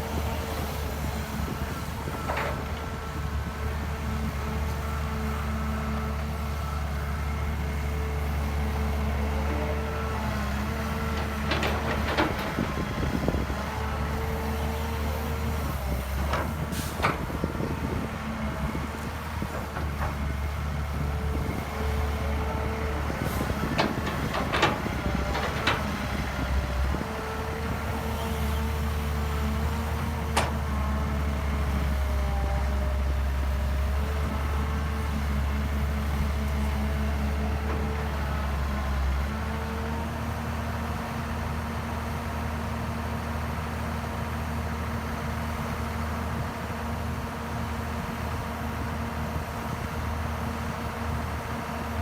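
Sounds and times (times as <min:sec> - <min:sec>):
diesel engine running: 0:00.0 - 0:43.6.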